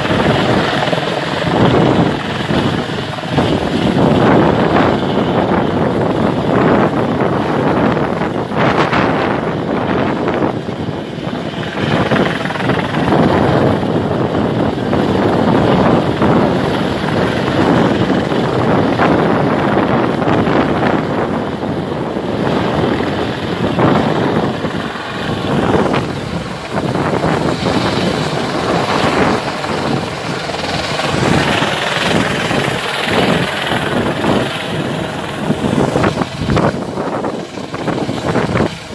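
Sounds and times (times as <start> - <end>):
helicopter flying overhead: 0.0 - 38.9.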